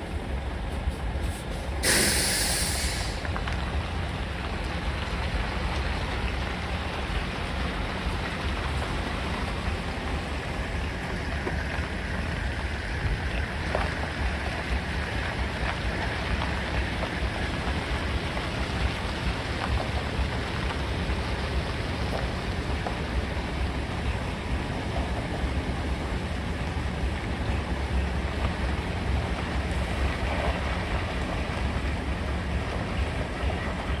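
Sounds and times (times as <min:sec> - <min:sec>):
steady rain falling: 0:00.1 - 0:34.0.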